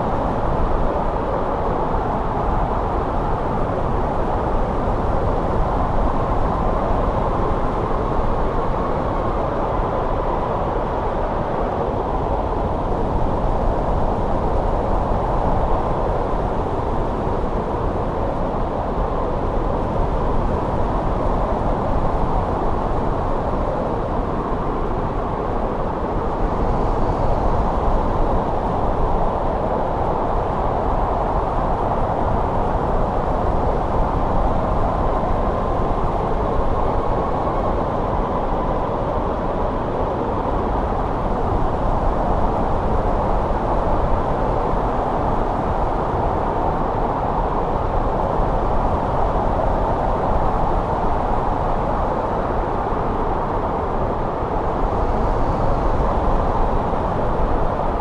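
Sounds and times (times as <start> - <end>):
wind blowing steadily: 0.0 - 58.0.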